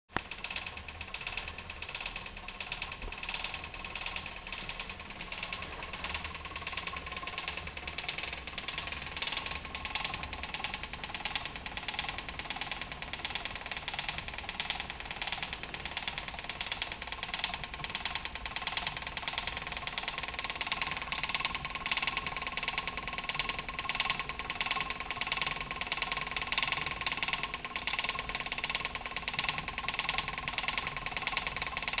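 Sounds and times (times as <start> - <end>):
spinning wheel clacking and whirring: 0.1 - 32.0.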